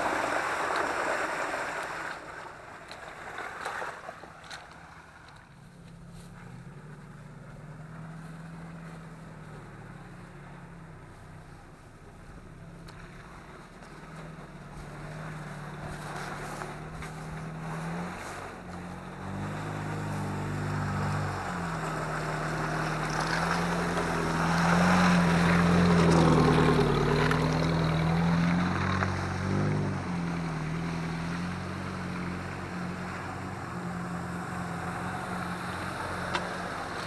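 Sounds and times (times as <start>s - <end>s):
off-road vehicle engine revving: 0.0s - 37.0s
wheels splashing water: 0.0s - 37.0s.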